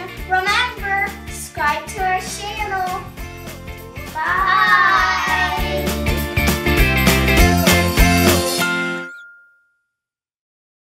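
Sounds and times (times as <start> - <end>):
music with a steady beat: 0.0 - 9.0.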